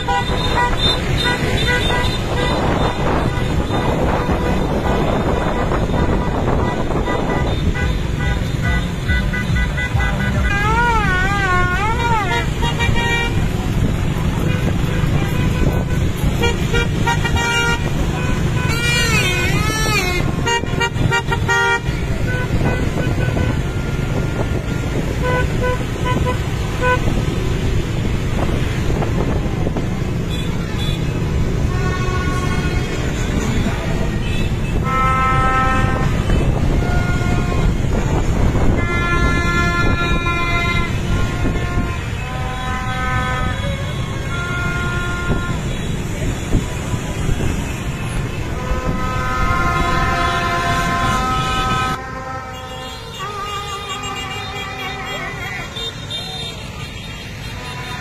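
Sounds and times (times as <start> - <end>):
motorbike and truck engines: 0.0 - 58.0
traffic rumble: 0.0 - 58.0
vehicle horns beeping: 0.0 - 58.0.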